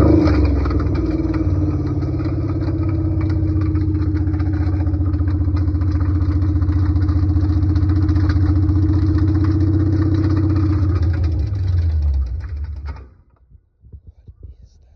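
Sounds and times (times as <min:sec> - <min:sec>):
car engine clattering: 0:00.0 - 0:13.4.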